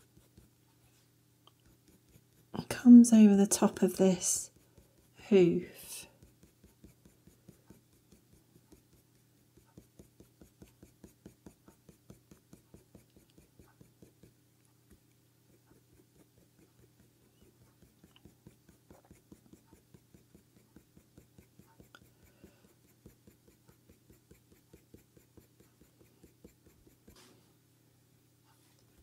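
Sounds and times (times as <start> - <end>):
pencil scratching on paper: 0.0 - 27.4
faint low hum: 0.0 - 29.0.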